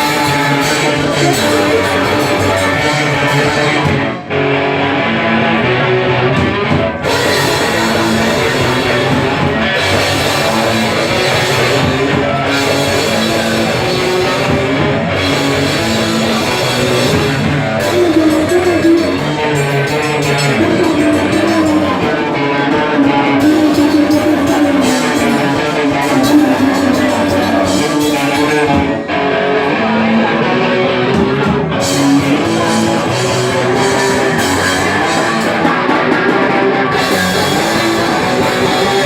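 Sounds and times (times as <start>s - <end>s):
drum kit: 0.0s - 39.0s
loud electric guitar: 0.0s - 39.0s
punk rock band playing: 0.0s - 39.0s.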